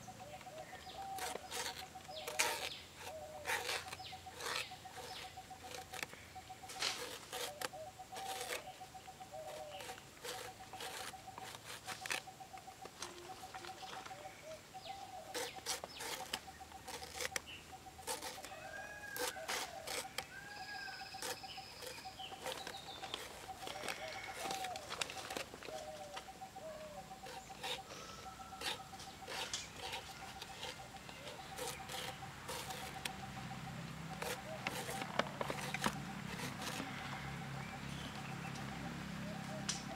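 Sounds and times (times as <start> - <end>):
chickens calling: 0.0 - 39.9
scraping strokes on a blade: 0.5 - 38.8.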